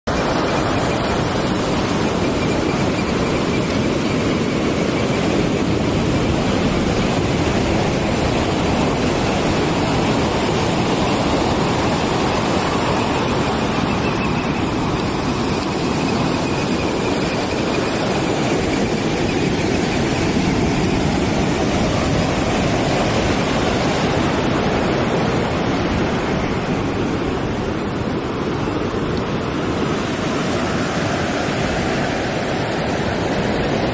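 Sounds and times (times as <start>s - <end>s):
ocean surf roaring: 0.0s - 33.9s.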